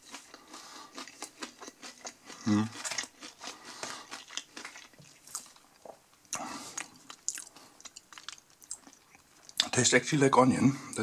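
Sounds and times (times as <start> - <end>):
chewing crispy onion ring: 0.0 - 9.8.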